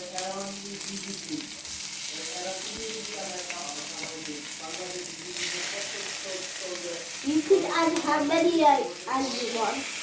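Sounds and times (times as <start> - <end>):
quail sizzling in hot oil: 0.0 - 10.0.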